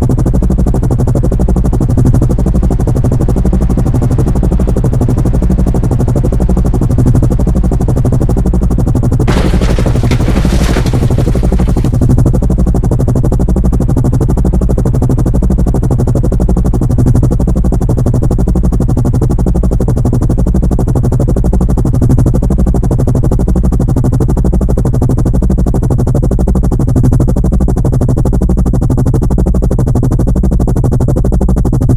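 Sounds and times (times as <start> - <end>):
helicopter drone: 0.0 - 31.9.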